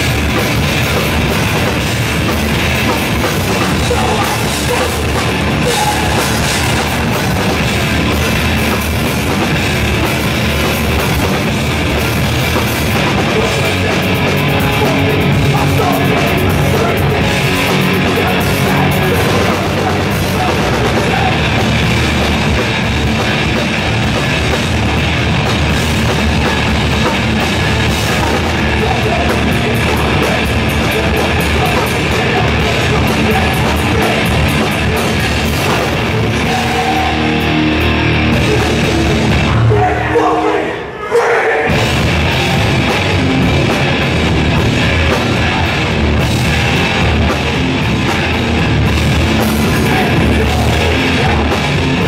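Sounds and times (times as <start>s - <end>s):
pounding drum kit: 0.0s - 40.2s, 41.7s - 52.0s
distorted electric guitars: 0.0s - 41.0s, 41.6s - 52.0s.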